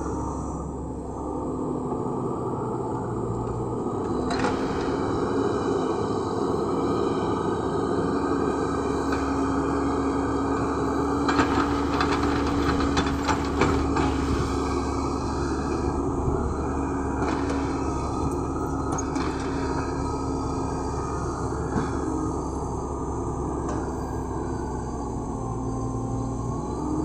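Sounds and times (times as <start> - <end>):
excavator diesel engine droning: 0.0 - 27.0.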